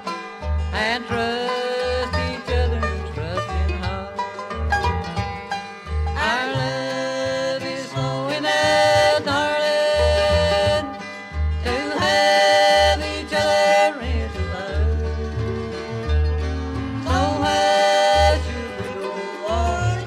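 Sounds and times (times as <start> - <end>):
banjo: 0.0 - 20.0
upright bass: 0.0 - 20.0
sliding held melody notes: 0.6 - 20.0.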